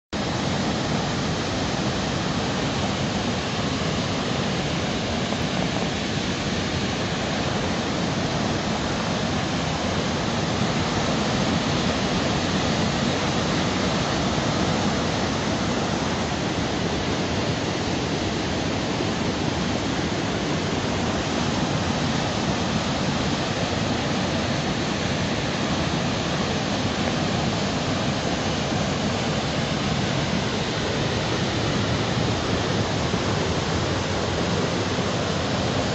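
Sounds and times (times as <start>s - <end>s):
floodwater rushing: 0.2s - 35.9s.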